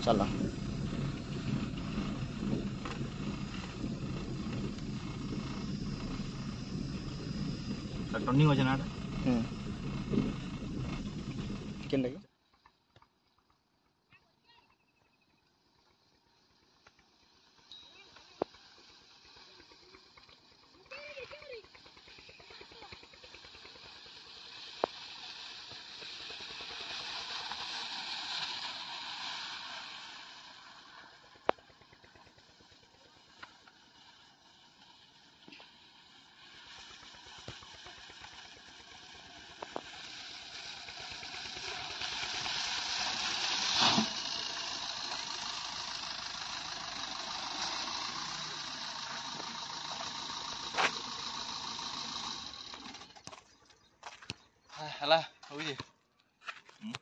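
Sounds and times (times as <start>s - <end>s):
distant car driving on dirt: 0.0s - 57.0s.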